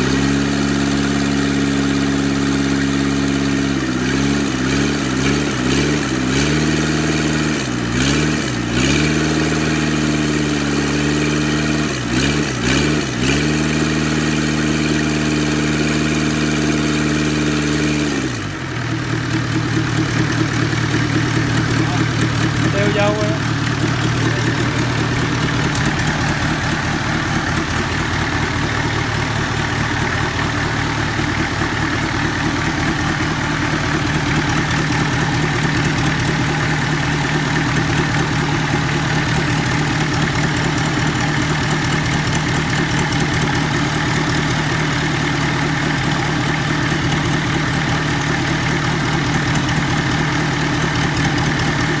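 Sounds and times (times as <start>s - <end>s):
engine idling: 0.0s - 52.0s.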